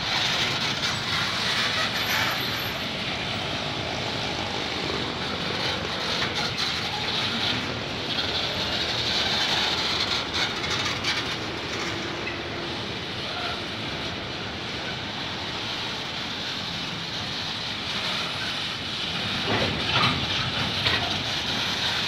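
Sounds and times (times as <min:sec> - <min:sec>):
train wheels rolling on rail: 0:00.0 - 0:22.0.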